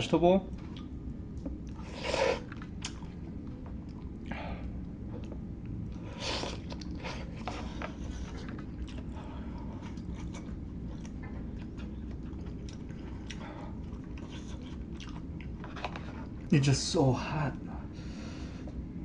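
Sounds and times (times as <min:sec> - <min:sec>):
low hum: 0:00.0 - 0:19.0
person chewing food: 0:00.5 - 0:16.5.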